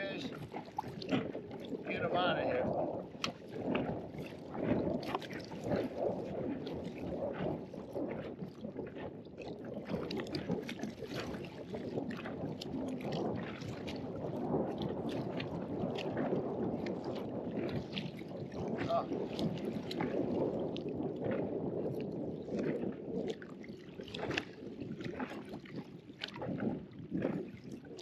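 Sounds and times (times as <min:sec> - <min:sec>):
sharp splashes and clicks: 0:00.0 - 0:28.0
water lapping against boat: 0:00.0 - 0:28.0
wind rushing over microphone: 0:00.0 - 0:28.0.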